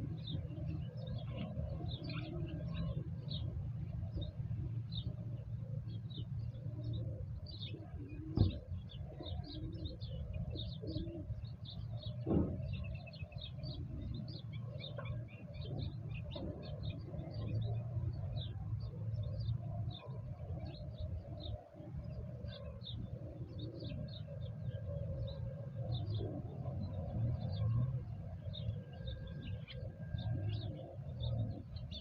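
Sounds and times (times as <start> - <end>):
wild birds chirping and calling: 0.0 - 32.0.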